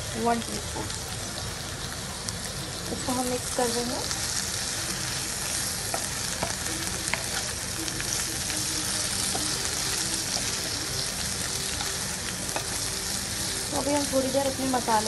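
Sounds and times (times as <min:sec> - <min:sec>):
potatoes sizzling in hot oil: 0:00.0 - 0:15.0
spatula stirring in a pan: 0:02.9 - 0:15.0.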